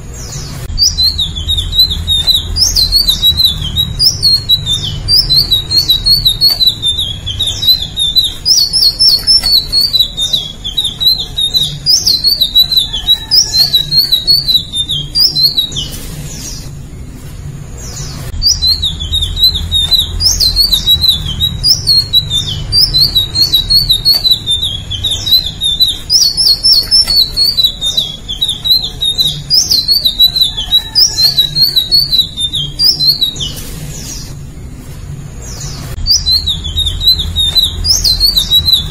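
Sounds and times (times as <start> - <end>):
bird singing warbled notes: 0.0 - 17.3, 17.9 - 34.5, 35.5 - 38.9.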